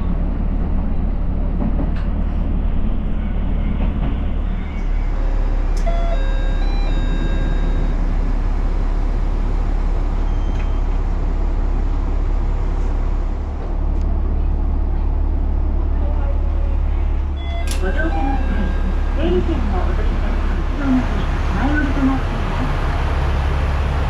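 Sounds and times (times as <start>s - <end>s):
diesel railcar rumbling: 0.0s - 24.0s.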